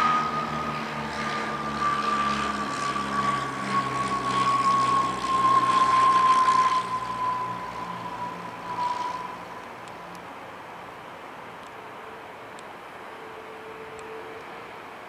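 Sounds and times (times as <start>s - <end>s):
high whine: 0.0s - 15.0s
plane engines: 0.0s - 15.0s.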